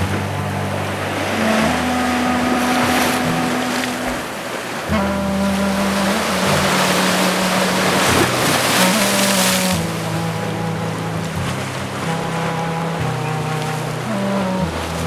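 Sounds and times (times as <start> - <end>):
sustained low chords music: 0.0 - 15.0.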